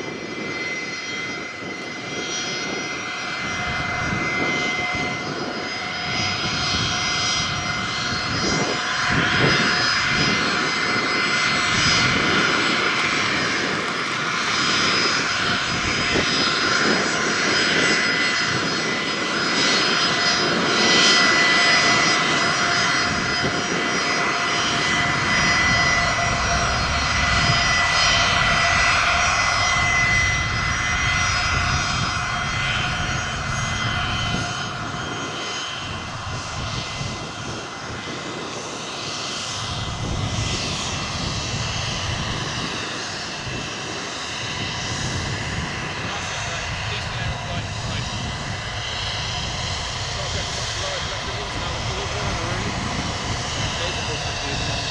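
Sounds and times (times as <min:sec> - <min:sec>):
jet taxiing turbofan whine: 0:00.0 - 0:54.9.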